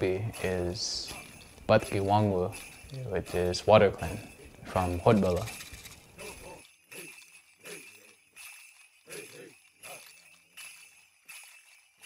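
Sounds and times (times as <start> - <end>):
dancers' bells jingling: 0.0 - 12.0.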